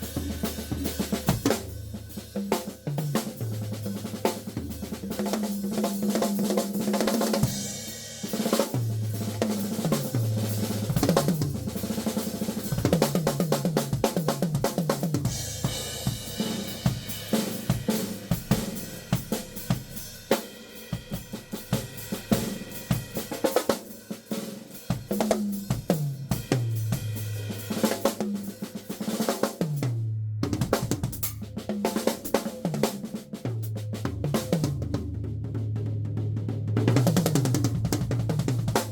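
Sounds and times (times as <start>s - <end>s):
acoustic drum kit playing: 0.0s - 38.9s.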